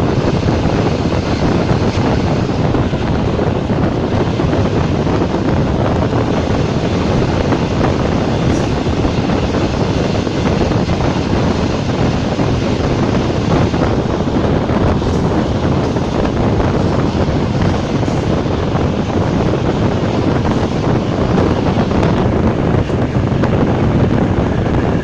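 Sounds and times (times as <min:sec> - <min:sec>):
train running noise: 0:00.0 - 0:25.0
wind buffeting microphone: 0:00.0 - 0:25.0.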